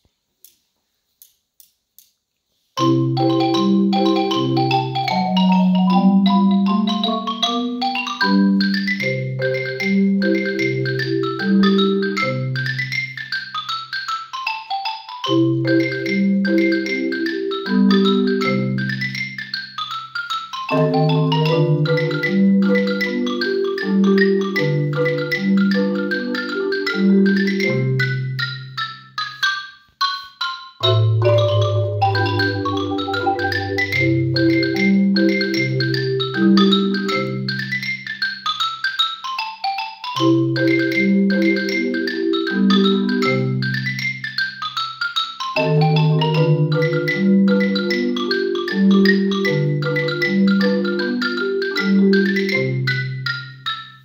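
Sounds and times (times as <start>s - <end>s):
marimba played with mallets: 2.5s - 54.0s.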